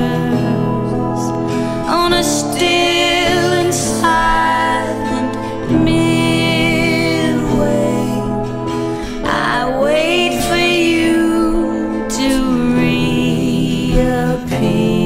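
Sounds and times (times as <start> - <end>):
slow gentle instrumental music: 0.0 - 15.0.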